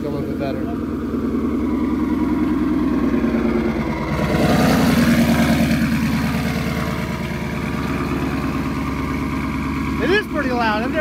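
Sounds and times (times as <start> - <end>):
car engine pulling away: 0.0 - 11.0.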